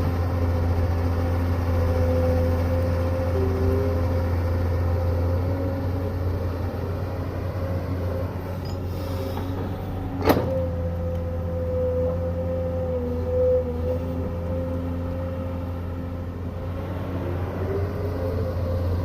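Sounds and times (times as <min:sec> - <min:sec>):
excavator engine whining: 0:00.0 - 0:19.0.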